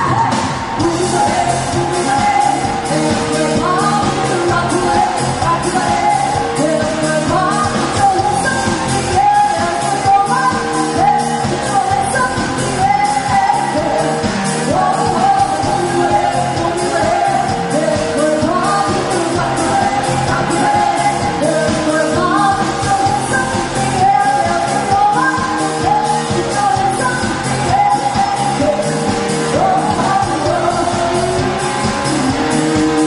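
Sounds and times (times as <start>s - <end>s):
person singing: 0.0s - 33.0s
rock band playing: 0.0s - 33.0s.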